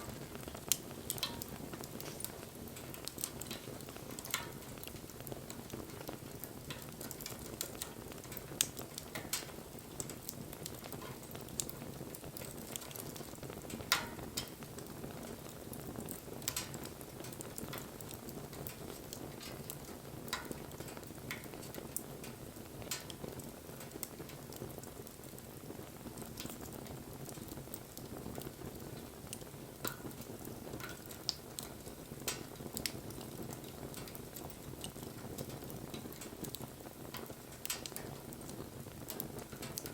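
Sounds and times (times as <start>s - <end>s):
fire crackles and pops: 0.0s - 39.9s.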